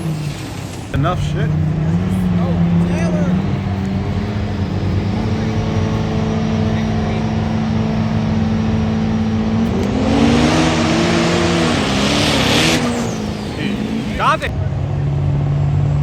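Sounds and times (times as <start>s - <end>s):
rush of exhaust noise: 0.0s - 16.0s
truck engine accelerating: 0.0s - 16.0s.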